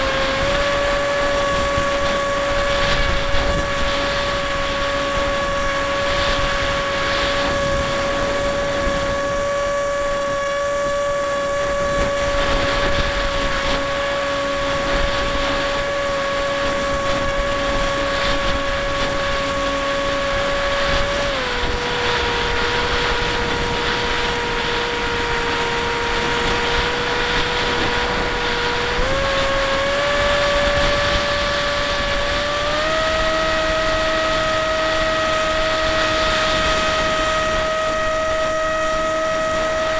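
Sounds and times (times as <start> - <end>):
electric motor and propeller whining: 0.0 - 39.9
wind rushing over camera: 0.0 - 39.9.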